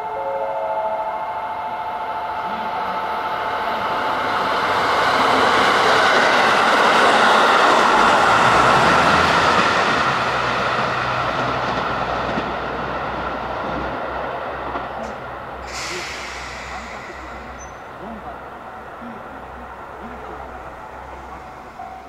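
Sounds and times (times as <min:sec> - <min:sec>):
diesel train passing: 0:00.0 - 0:22.0
train wheels on rails: 0:03.8 - 0:22.0.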